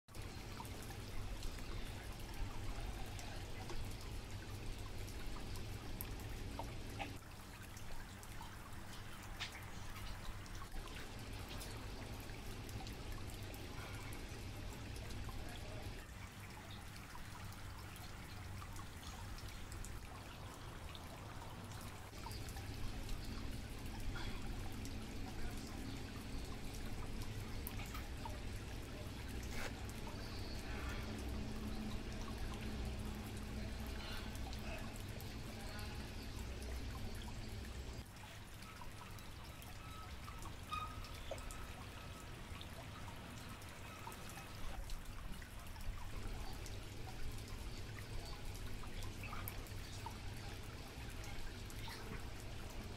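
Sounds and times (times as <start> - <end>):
low constant hum: 0.1 - 52.9
water trickling in aquarium: 0.1 - 52.9.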